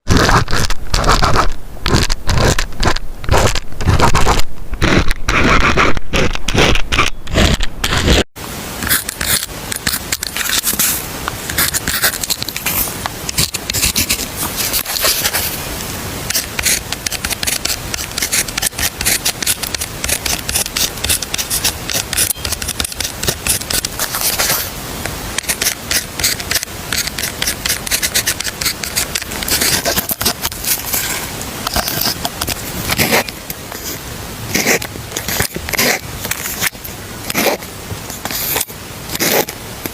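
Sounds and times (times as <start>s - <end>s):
pen scratching on paper: 0.1s - 8.2s, 8.8s - 15.6s, 16.3s - 24.7s, 25.4s - 37.6s, 38.2s - 39.5s.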